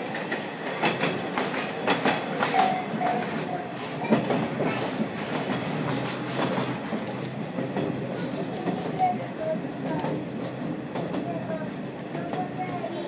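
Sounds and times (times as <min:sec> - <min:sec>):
steady low train rumble: 0:00.0 - 0:13.0
wheels clicking over rail joints: 0:00.0 - 0:13.0.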